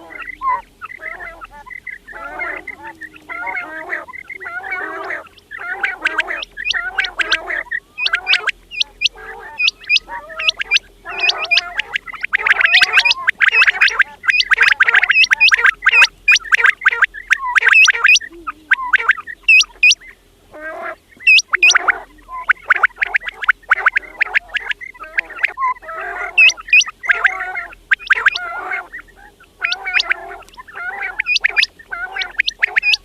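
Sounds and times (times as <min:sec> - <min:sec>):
quails calling: 0:00.0 - 0:33.0.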